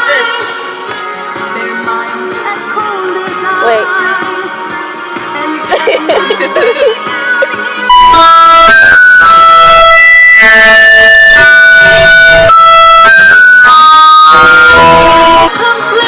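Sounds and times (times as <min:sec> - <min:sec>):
instrumental background music: 0:00.0 - 0:16.0.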